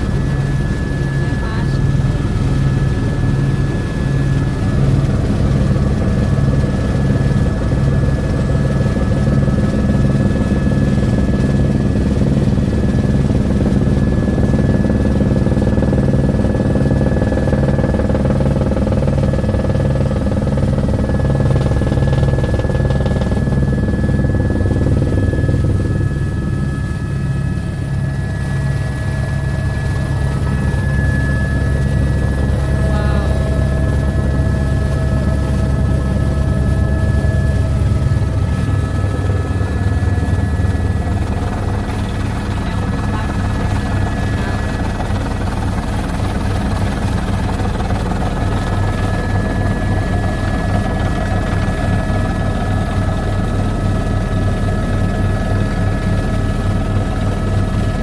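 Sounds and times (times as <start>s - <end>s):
helicopter engine drone: 0.0s - 58.0s.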